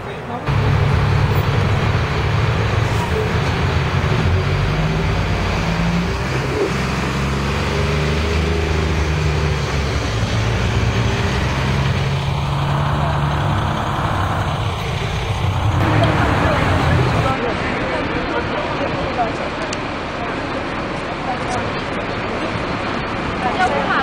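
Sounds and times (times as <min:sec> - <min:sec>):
street traffic: 0:00.0 - 0:24.0
bus diesel engine droning: 0:00.2 - 0:24.0.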